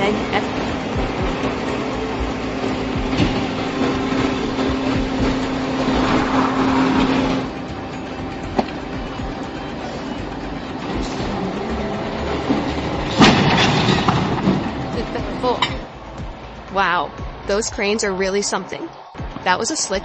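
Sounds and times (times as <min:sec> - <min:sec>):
heavy machinery humming and whining: 0:00.0 - 0:20.0.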